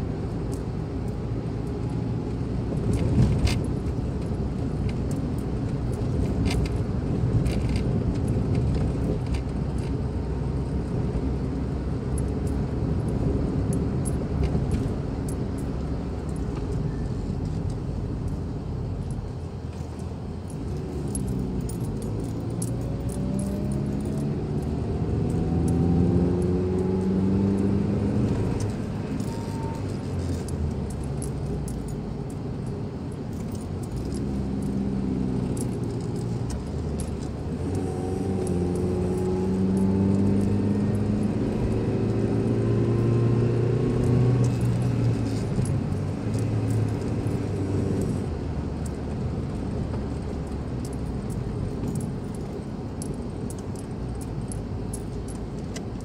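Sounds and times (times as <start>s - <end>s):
car engine accelerating: 0.0s - 56.0s
light rattling in car cabin: 0.0s - 56.0s
road noise: 0.0s - 56.0s.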